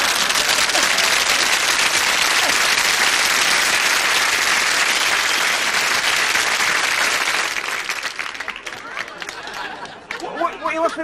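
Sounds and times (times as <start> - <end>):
studio audience applauding: 0.0 - 11.0.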